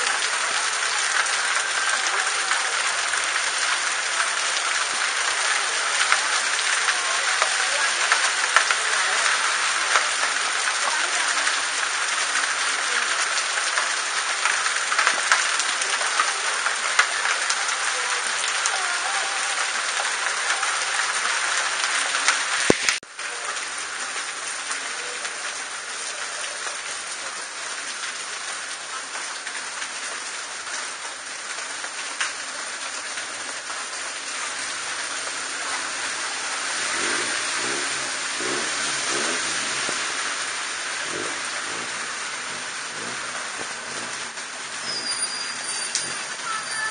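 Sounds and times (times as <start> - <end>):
heavy rain on awnings: 0.0 - 46.9.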